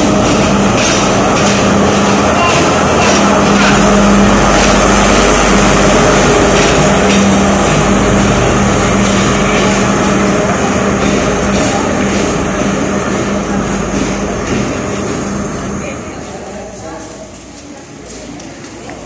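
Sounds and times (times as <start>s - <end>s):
diesel train engine droning: 0.0s - 19.0s
train rumble: 0.0s - 19.0s.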